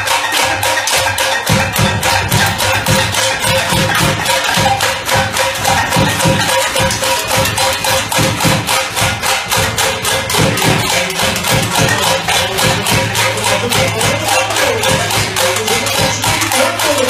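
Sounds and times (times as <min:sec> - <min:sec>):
fast drum beat: 0:00.0 - 0:17.0
live band playing: 0:00.0 - 0:17.0.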